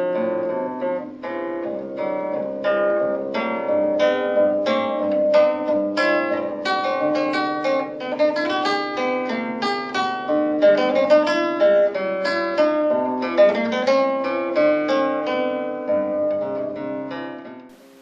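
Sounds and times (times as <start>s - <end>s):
plucked strings music: 0.0s - 17.9s.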